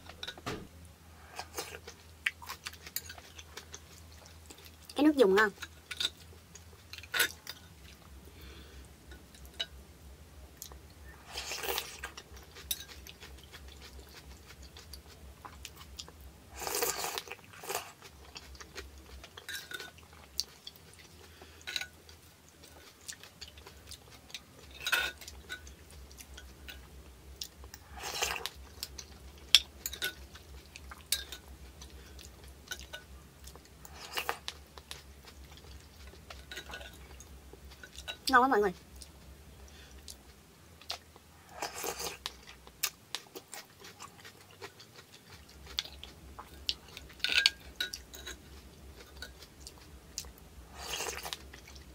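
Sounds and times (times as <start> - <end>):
soft chewing: 1.1 - 9.8, 10.5 - 51.9.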